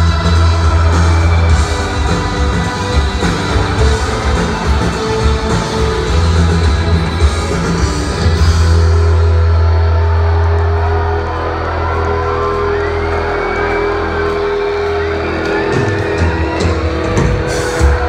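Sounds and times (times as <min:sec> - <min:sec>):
rock band sustained chord: 0:00.0 - 0:15.0
audience shouting and whooping: 0:00.0 - 0:18.0
drums: 0:00.0 - 0:18.0.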